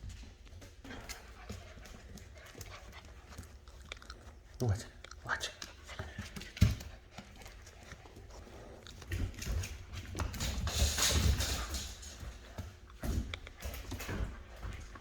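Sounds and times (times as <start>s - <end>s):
puppies playing and scuffling: 0.0s - 15.0s.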